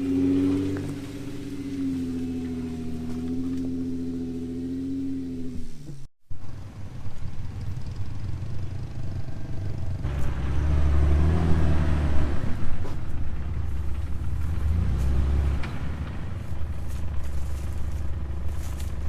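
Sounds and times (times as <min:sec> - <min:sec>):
engine rumbling under load: 0:00.0 - 0:19.0.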